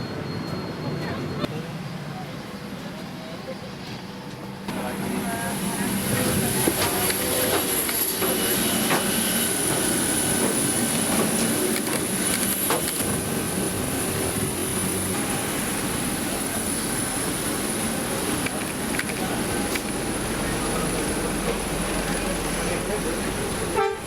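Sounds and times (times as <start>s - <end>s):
aircraft cabin hum and hiss: 1.0s - 24.0s.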